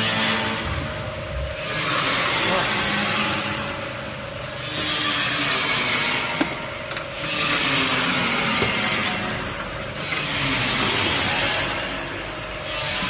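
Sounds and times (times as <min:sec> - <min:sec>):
machine rollers whirring and hissing: 0:00.0 - 0:13.0.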